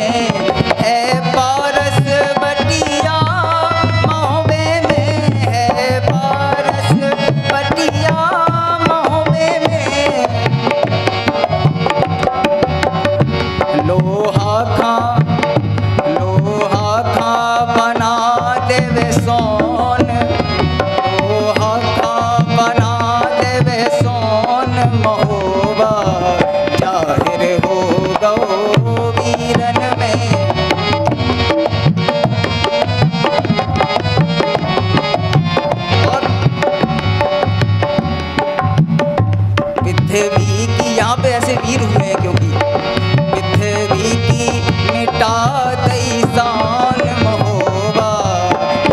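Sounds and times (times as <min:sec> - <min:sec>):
harmonium melody: 0:00.0 - 0:48.9
tabla and dholak rhythm: 0:00.0 - 0:48.9.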